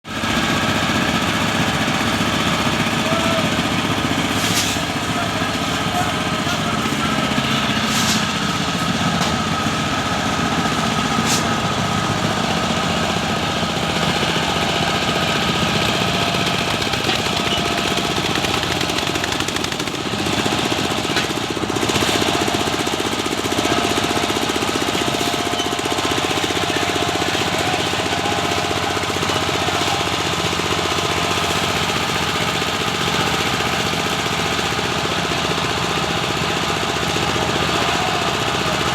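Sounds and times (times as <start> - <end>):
small engine running: 0.1 - 38.9.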